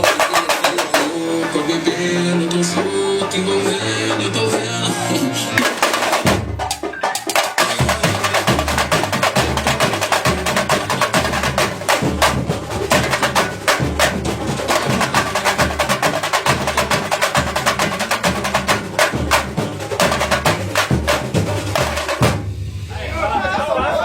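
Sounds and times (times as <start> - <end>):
drums and wood-block strikes: 0.0 - 22.8.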